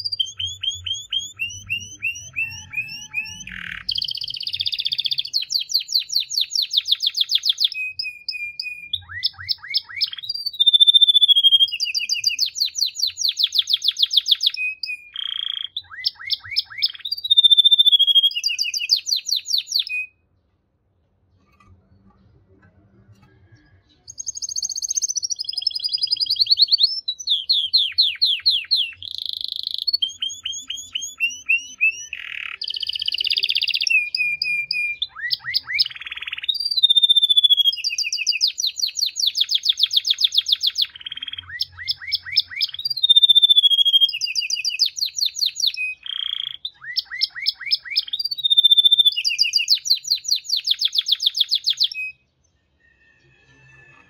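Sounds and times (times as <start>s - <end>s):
canary singing: 0.0s - 20.4s, 21.2s - 54.0s.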